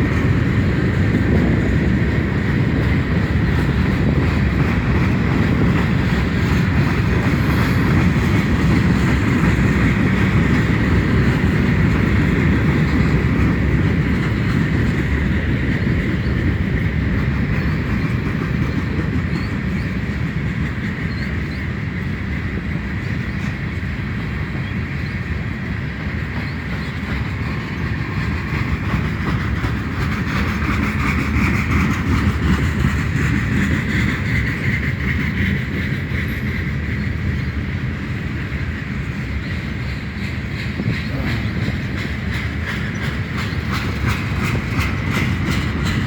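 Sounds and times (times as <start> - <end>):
freight train wheels rumbling on track: 0.0 - 46.0.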